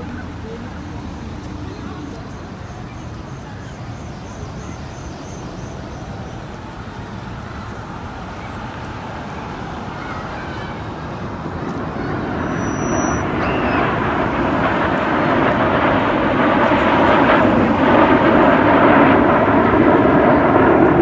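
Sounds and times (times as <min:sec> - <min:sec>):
aircraft engine rush overhead: 0:00.0 - 0:21.0.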